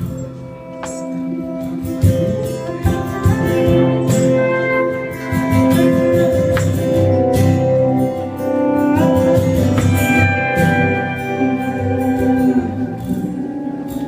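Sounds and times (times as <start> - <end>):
acoustic guitar: 0.0 - 14.0
live band playing pop: 0.0 - 14.0
percussion: 0.0 - 14.0.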